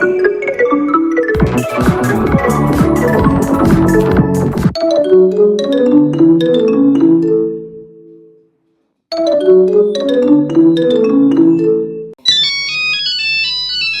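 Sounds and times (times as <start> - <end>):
marimba-like ringtone melody: 0.0 - 8.4, 9.1 - 14.0.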